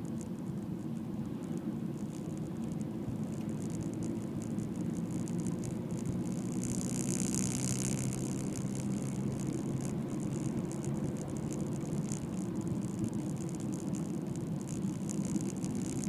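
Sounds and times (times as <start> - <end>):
car engine running: 0.0 - 16.0
road and tyre noise: 0.0 - 16.0.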